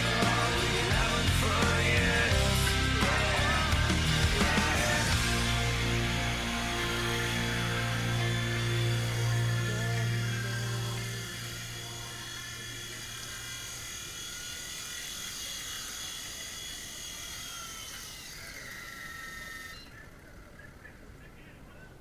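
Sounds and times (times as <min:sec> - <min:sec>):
small electric motor and rotor whining: 0:00.0 - 0:22.0.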